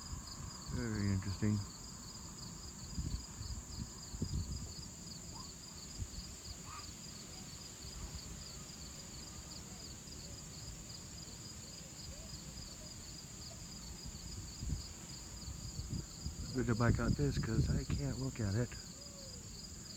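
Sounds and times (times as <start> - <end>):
insect chirping: 0.0 - 19.9
insect chorus hissing: 0.0 - 19.9.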